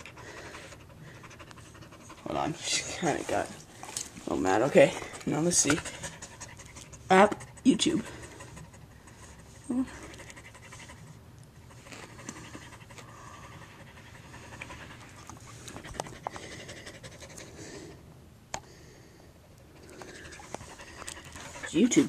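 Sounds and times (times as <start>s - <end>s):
dog panting: 0.0s - 18.0s, 19.6s - 22.0s.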